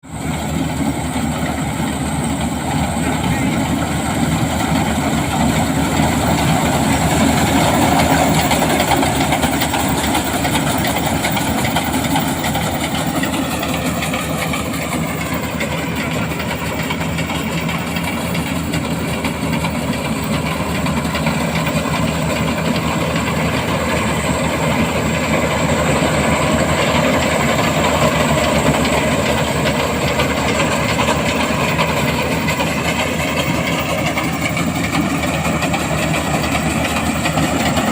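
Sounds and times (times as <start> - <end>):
combine harvester running: 0.0 - 37.9.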